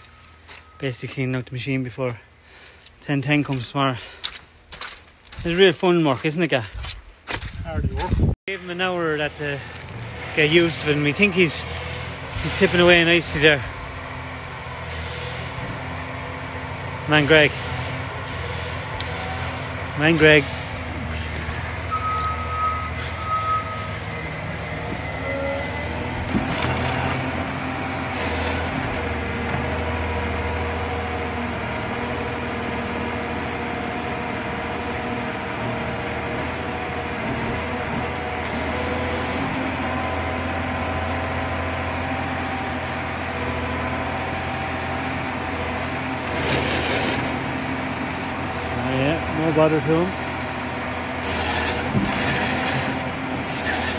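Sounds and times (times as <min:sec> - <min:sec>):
forestry harvester engine droning: 0:00.0 - 0:04.3, 0:07.8 - 0:53.9.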